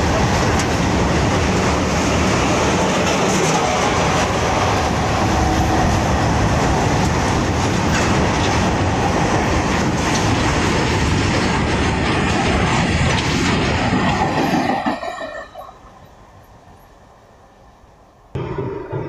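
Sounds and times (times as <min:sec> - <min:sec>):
freight train rumbling and rattling: 0:00.0 - 0:19.0.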